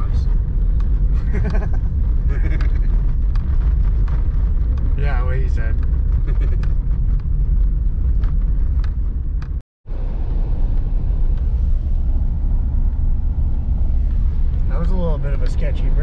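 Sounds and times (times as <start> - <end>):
road noise rumble in truck cab: 0.0 - 16.0.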